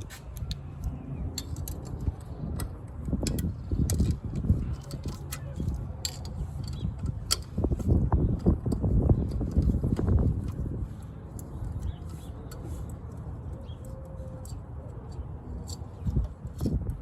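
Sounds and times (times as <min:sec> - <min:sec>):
steady low rumble: 0:00.0 - 0:17.0
metal tools clinking: 0:00.4 - 0:16.8.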